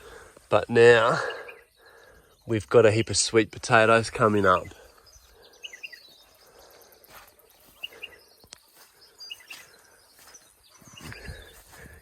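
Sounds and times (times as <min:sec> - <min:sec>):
bird chirps: 0:00.0 - 0:12.0
outdoor ambience: 0:00.0 - 0:12.0.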